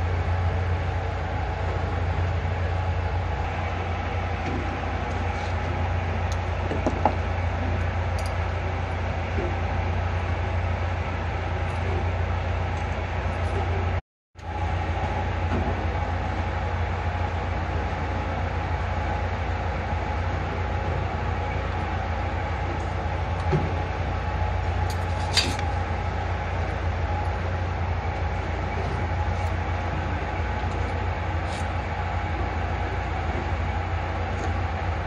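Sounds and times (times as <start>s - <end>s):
ship machinery low drone: 0.0s - 35.0s.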